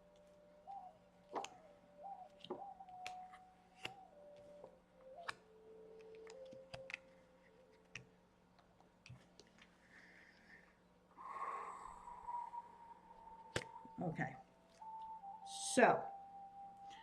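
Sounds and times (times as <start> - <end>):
faint steady tone: 0.0 - 17.0.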